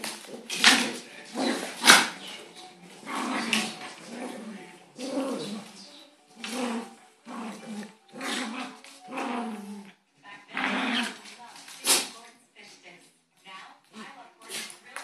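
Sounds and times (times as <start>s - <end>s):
dogs growling: 0.0s - 12.2s.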